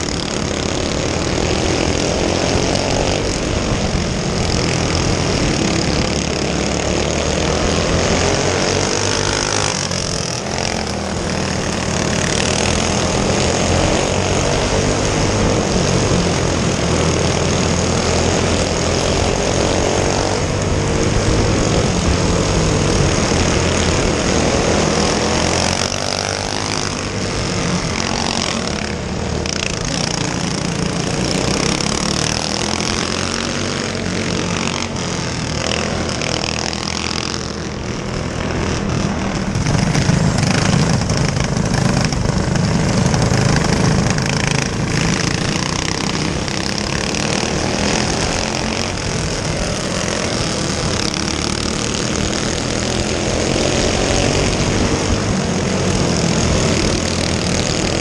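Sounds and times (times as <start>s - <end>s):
go-kart engines racing: 0.0s - 58.0s.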